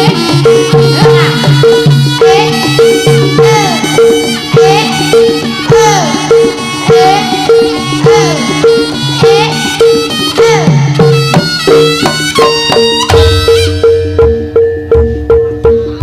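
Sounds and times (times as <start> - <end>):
drum-led instrumental ensemble music: 0.0 - 16.0.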